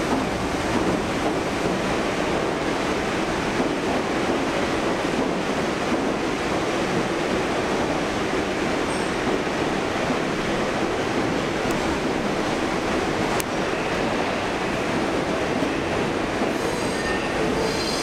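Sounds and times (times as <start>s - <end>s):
subway train rumbling past: 0.0s - 18.0s.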